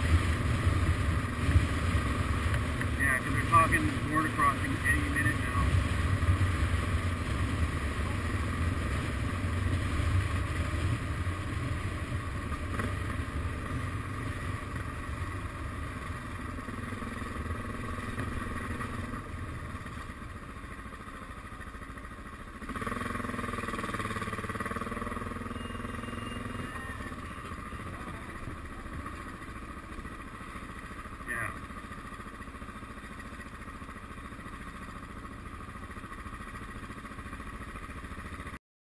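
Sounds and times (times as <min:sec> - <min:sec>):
motorcycle engine running: 0:00.0 - 0:38.6.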